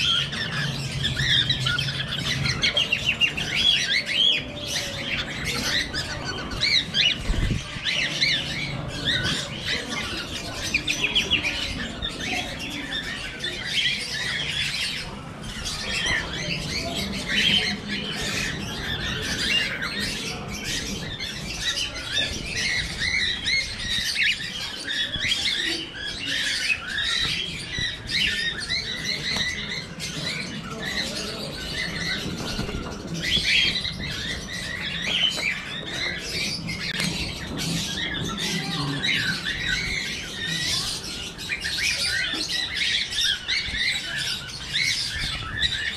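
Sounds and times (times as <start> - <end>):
cockatiels chirping and squawking: 0.0 - 45.9.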